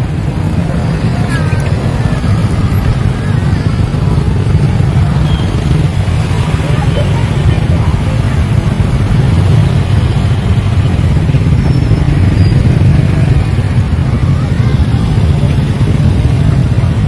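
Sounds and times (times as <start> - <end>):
scooter engines passing slowly: 0.0 - 17.0.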